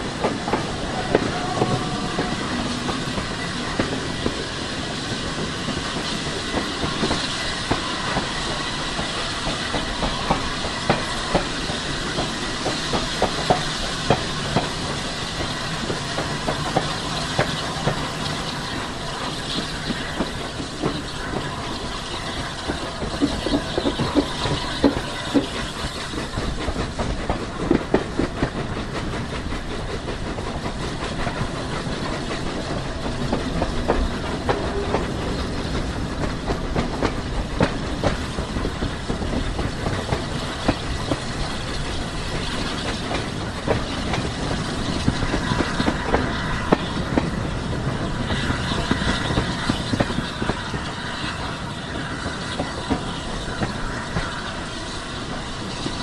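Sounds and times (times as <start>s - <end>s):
steam train rumble and hiss: 0.0s - 56.0s
wheels clicking over rail joints: 0.1s - 56.0s.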